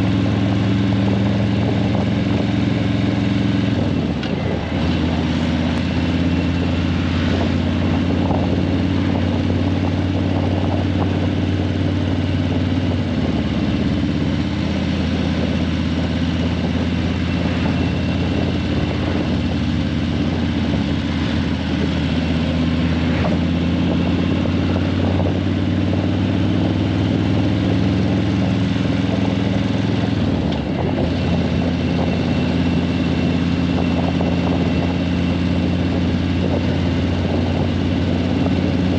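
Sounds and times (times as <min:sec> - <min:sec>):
motorcycle engine running: 0:00.0 - 0:38.9
road and traffic noise: 0:00.0 - 0:38.9.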